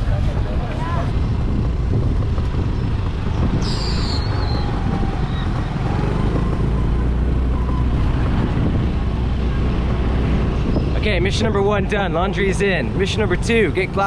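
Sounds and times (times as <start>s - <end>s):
motorcycle engine and road rumble: 0.0s - 14.0s
wind rush over microphone: 0.0s - 14.0s.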